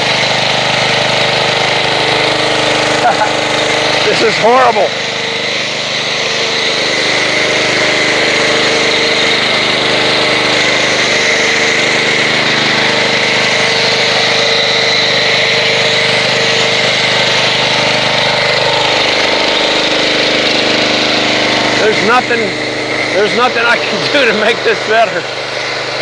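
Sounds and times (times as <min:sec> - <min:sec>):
motor hum: 0:00.0 - 0:26.0
pressure washer spraying: 0:00.0 - 0:26.0.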